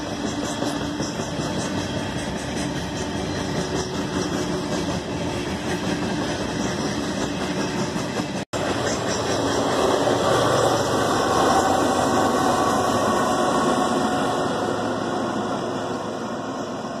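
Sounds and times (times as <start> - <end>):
diesel locomotive engines passing: 0.0 - 17.0.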